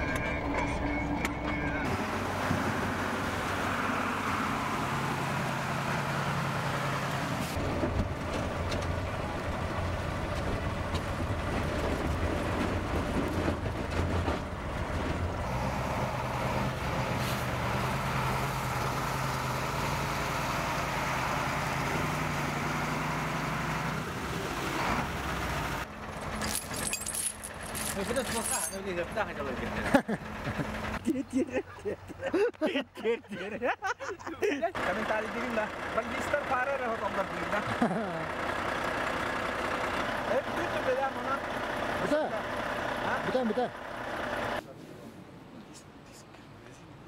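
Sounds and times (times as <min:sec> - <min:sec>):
truck diesel engine under load: 0:00.0 - 0:32.2, 0:34.7 - 0:44.6.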